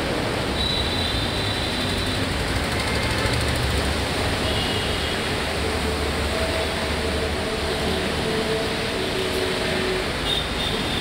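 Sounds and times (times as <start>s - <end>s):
traffic rumble: 0.0s - 11.0s
tyres hissing on wet road: 0.0s - 11.0s.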